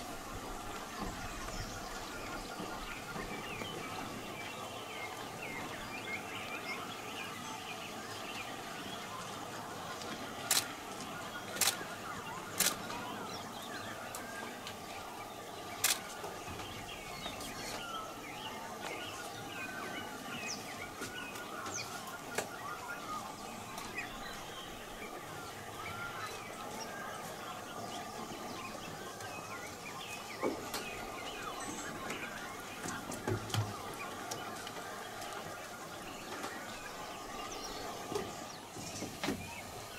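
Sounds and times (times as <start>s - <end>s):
birds chirping and calling: 0.0s - 39.9s
steady background hum: 0.0s - 39.9s.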